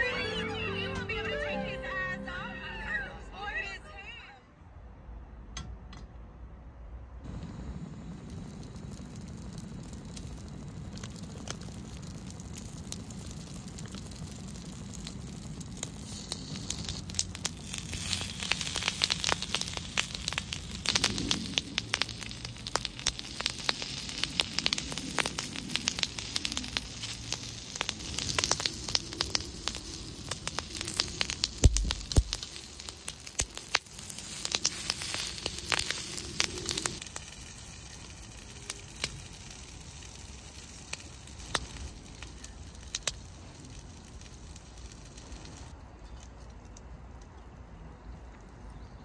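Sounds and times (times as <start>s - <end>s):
wood fire crackling and popping: 7.3s - 47.5s.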